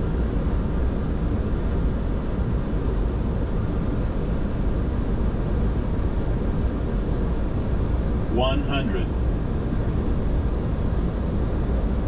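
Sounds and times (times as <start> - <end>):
cockpit airflow and engine rush: 0.0 - 12.0.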